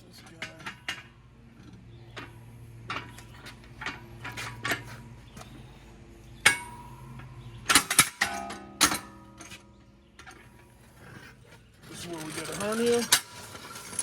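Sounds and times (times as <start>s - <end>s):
metal clanks and knocks: 0.0s - 5.7s, 6.3s - 14.0s.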